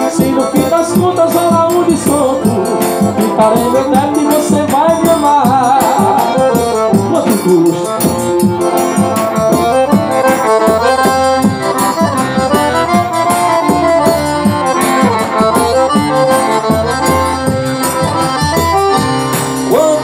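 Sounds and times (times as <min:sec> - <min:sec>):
accordion playing instrumental melody: 0:00.0 - 0:20.0
band steady beat: 0:00.0 - 0:20.0.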